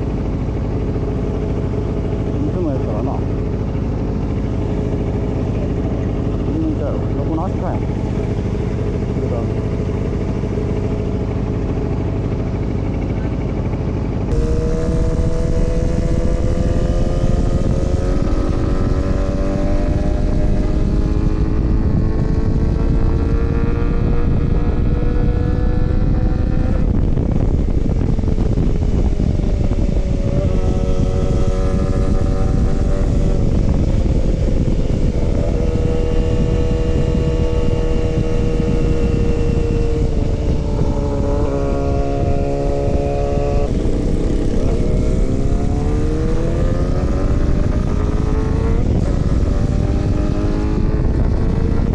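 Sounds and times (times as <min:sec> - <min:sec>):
motorcycle engine changing gears: 0:00.0 - 0:51.9
wind rumbling on microphone: 0:00.0 - 0:51.9.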